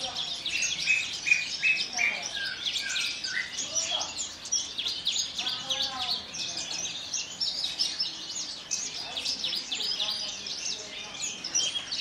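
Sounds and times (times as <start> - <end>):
bird singing chirps and trills: 0.0 - 12.0.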